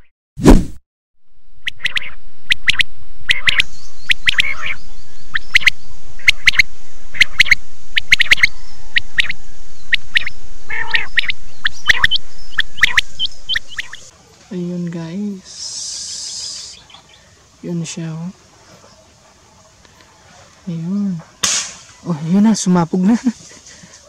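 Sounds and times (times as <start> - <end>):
birds chirping and squawking: 3.3 - 22.7.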